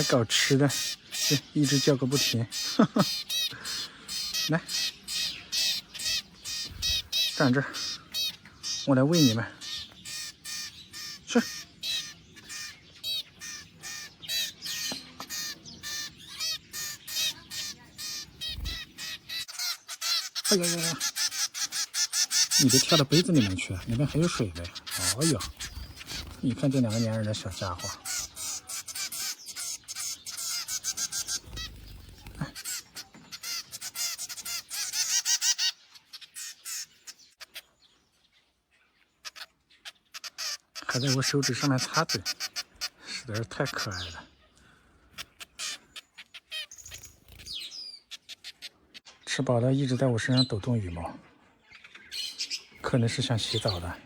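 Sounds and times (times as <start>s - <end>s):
young birds begging calls: 0.0s - 38.0s, 39.1s - 51.0s, 51.7s - 54.0s.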